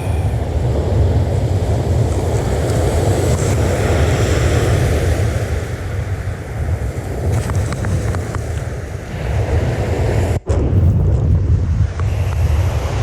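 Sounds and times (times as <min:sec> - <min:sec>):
surf washing: 0:00.0 - 0:10.4
wind buffeting microphone: 0:00.0 - 0:13.0.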